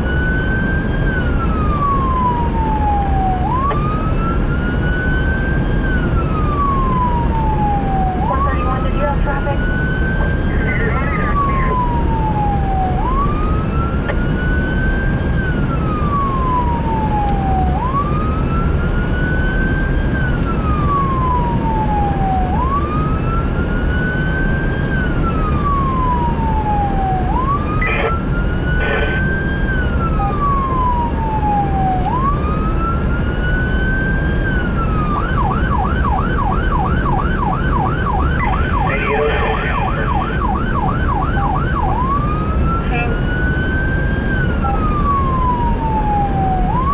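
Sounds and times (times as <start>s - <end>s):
electronic siren wailing and yelping: 0.0s - 20.0s, 20.8s - 46.9s.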